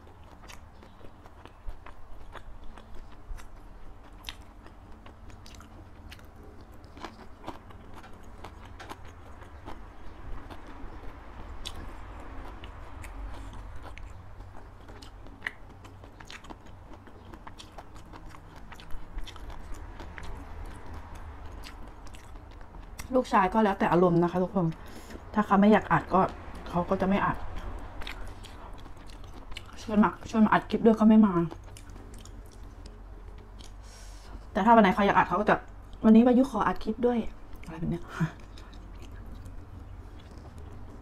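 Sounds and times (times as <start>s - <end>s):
person chewing: 0.0s - 23.1s, 24.2s - 25.3s, 26.0s - 30.3s, 31.3s - 34.5s, 37.3s - 41.0s
low steady hum: 0.0s - 41.0s.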